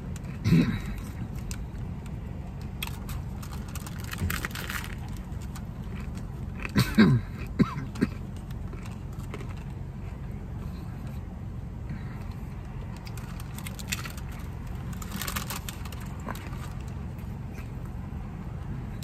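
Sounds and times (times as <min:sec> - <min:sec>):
crunchy taco shell being chewed: 0:00.0 - 0:11.2, 0:12.2 - 0:18.0
low steady hum: 0:00.0 - 0:19.0.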